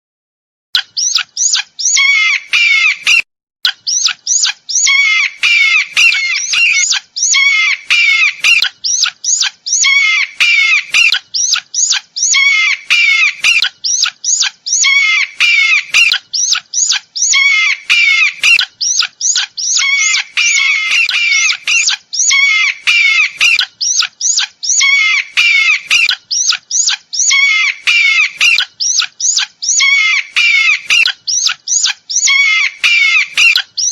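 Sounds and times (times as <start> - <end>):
eagle chattering call: 0.8 - 3.2, 3.9 - 33.9.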